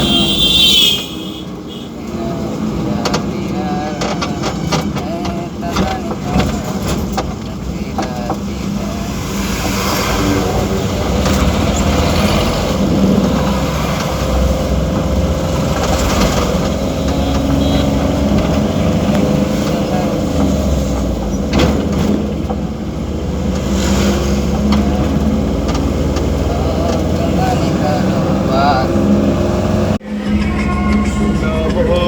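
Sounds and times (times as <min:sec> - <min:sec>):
truck diesel engines rumbling: 0:00.0 - 0:32.0.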